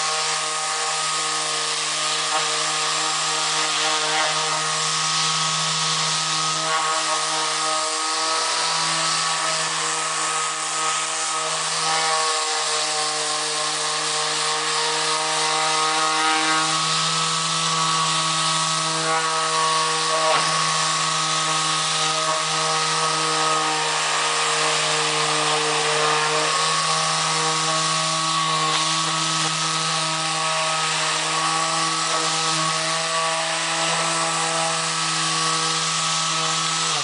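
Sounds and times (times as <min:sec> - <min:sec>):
orbital sander running: 0:00.0 - 0:37.0.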